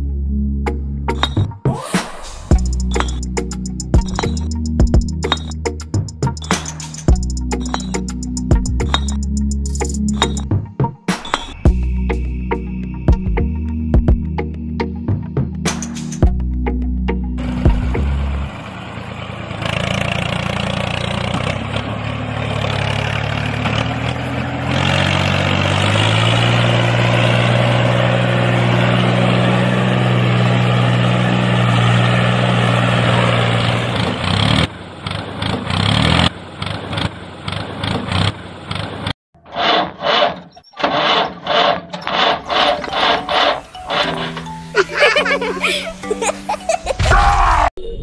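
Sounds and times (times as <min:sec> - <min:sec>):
engine droning: 0:00.0 - 0:46.2.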